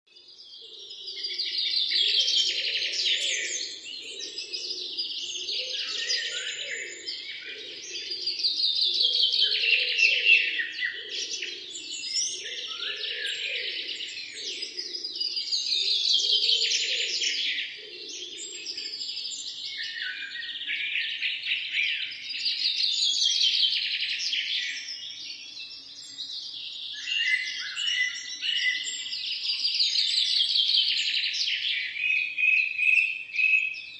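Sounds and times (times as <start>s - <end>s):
songbirds chorus: 0.1s - 33.9s.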